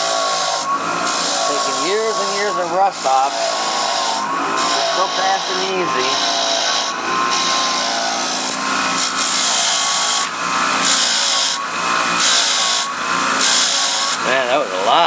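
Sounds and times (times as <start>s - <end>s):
wire wheel rasping on bolt: 0.0s - 14.3s
wire wheel grinder spinning: 0.0s - 15.0s.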